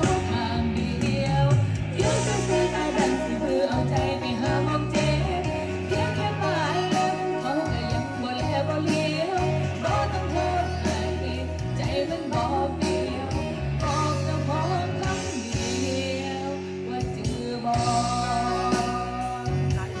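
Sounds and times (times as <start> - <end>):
song with singing and guitar: 0.0 - 20.0.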